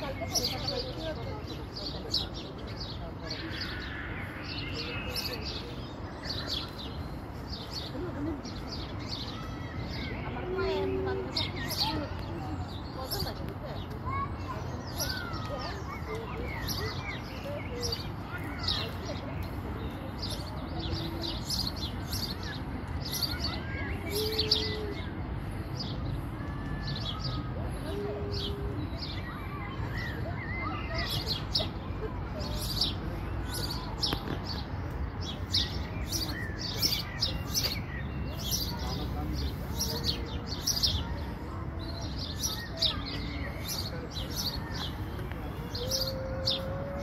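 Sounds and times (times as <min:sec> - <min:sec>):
songbirds chirping: 0:00.0 - 0:47.0.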